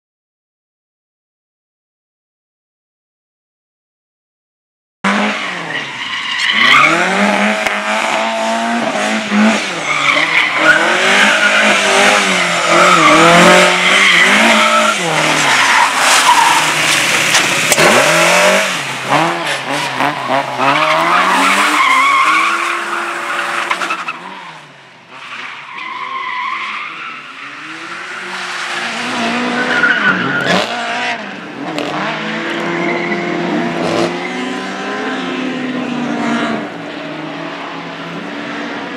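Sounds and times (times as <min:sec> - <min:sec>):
car engine revving: 0:05.1 - 0:23.8, 0:26.4 - 0:38.9.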